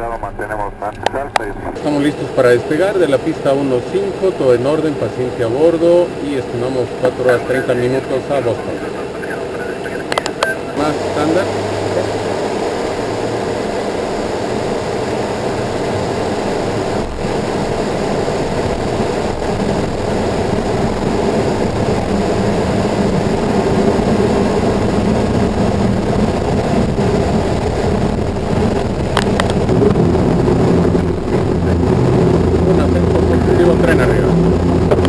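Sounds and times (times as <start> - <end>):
aircraft rolling rumble: 0.0 - 35.0
jet engines at takeoff power: 0.0 - 35.0.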